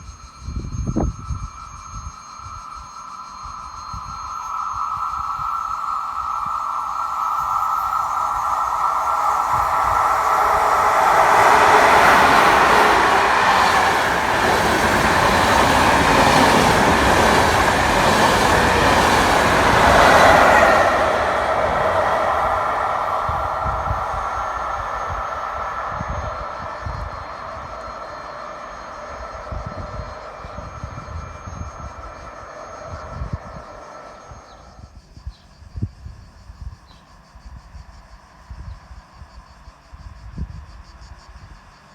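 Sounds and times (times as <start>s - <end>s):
electric train wheels on rails: 0.0s - 35.0s.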